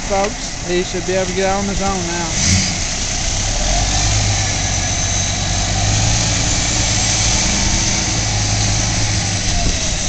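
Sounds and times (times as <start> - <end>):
diesel truck engines running: 0.0 - 10.0.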